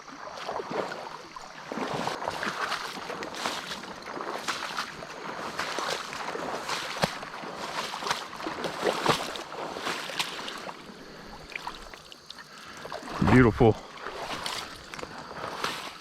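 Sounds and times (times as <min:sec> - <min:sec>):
footsteps splashing in shallow water: 0:00.0 - 0:16.0.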